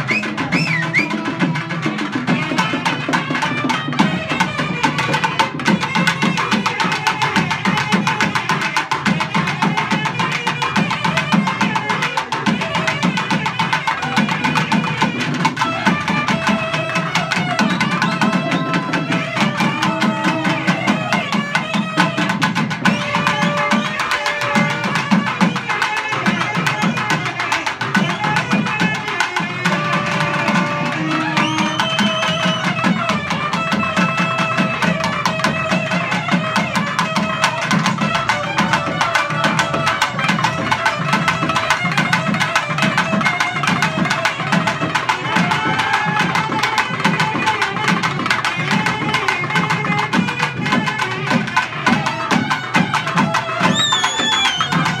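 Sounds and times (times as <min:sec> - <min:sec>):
steady drumming: 0:00.0 - 0:55.0
double-reed pipe melody: 0:09.9 - 0:55.0.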